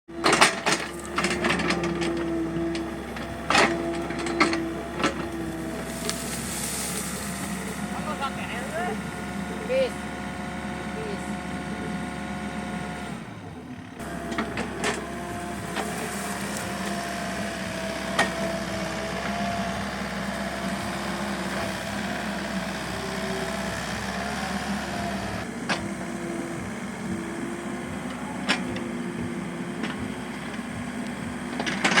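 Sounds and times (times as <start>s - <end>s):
excavator engine drone: 0.1s - 32.0s.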